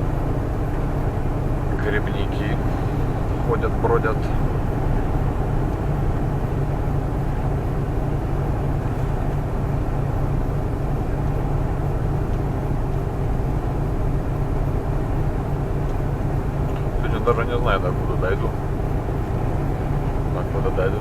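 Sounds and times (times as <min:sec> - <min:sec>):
road and tyre noise: 0:00.0 - 0:21.0
truck engine drone: 0:00.0 - 0:21.0.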